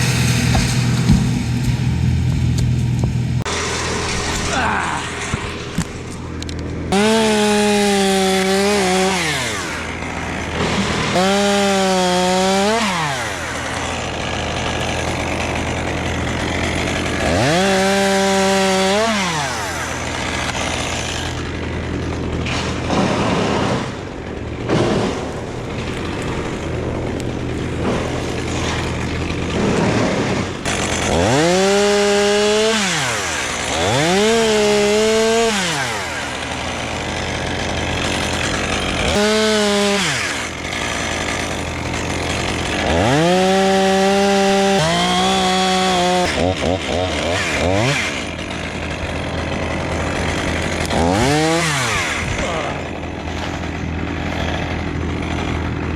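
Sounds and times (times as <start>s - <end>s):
chainsaw revving and idling: 0.0s - 55.9s.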